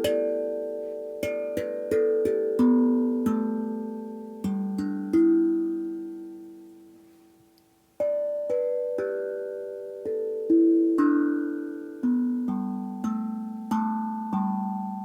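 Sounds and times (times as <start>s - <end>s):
steel tongue drum notes: 0.0s - 15.0s.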